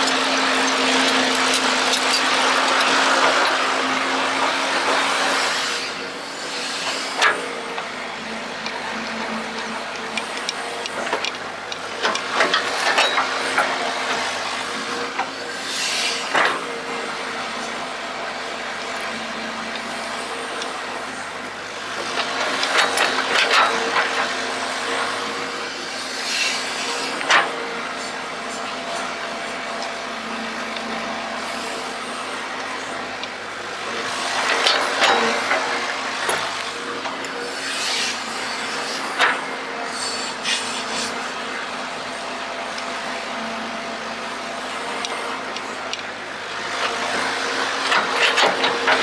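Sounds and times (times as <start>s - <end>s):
excavator running: 0.0s - 49.0s.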